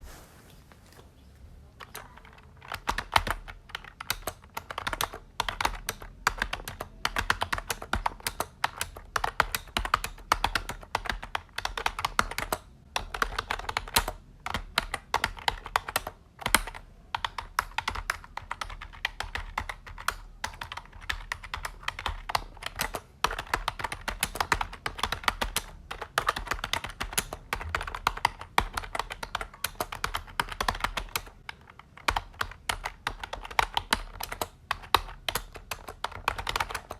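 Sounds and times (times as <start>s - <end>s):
typing on computer keyboard: 1.8s - 36.9s.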